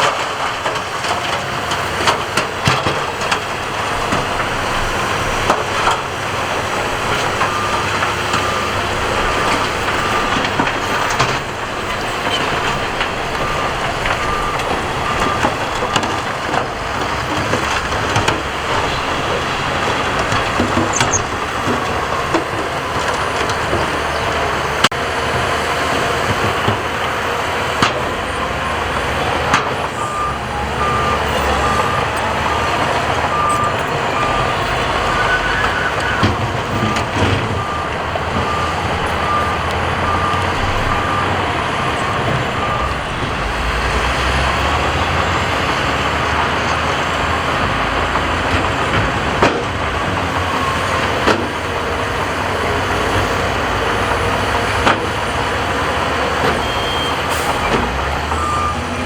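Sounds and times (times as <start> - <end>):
heavy diesel machinery running: 0.0 - 59.0
reversing alarm beeping: 3.6 - 25.3, 28.0 - 46.4, 50.2 - 59.0.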